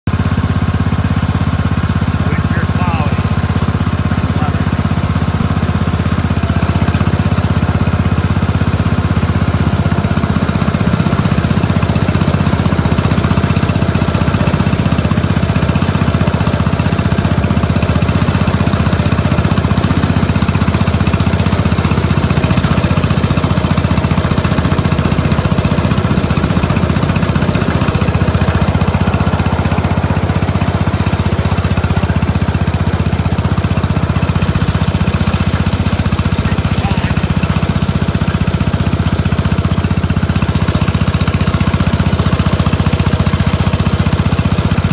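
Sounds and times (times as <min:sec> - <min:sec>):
small locomotive engine running: 0:00.1 - 0:44.9.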